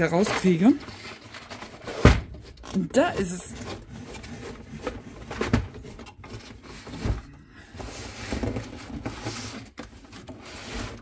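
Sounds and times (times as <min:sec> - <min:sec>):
plastic scraping against cardboard: 0:00.0 - 0:11.0.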